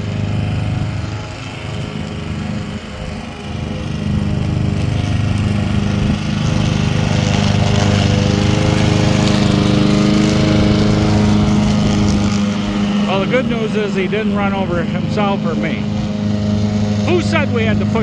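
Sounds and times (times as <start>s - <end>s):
lawn mower running: 0.0s - 18.0s.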